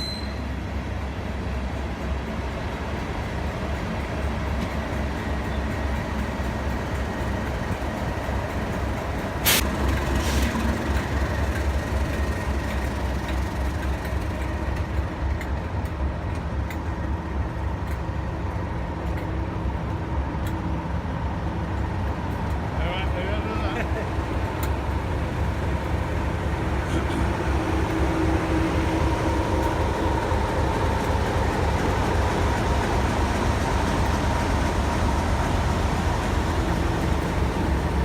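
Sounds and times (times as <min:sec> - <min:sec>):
diesel locomotive engines rumbling: 0:00.0 - 0:38.0.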